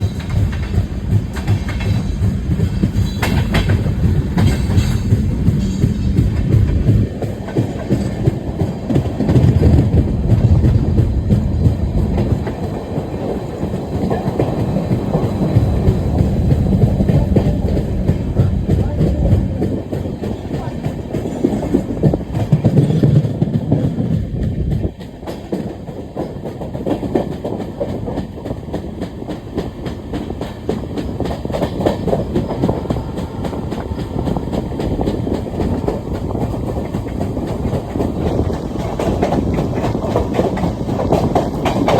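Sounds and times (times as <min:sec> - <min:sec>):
train rumbling: 0:00.0 - 0:41.9
wheels clattering on track: 0:00.0 - 0:41.9.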